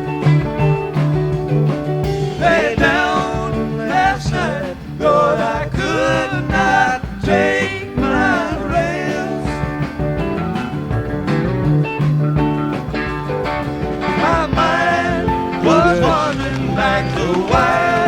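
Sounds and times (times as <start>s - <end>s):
song with vocal and guitar: 0.0s - 18.0s.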